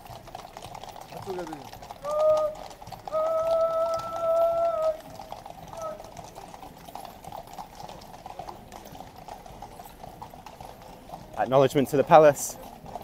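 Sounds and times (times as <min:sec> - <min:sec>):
horse hooves clip-clopping on road: 0:00.0 - 0:13.0.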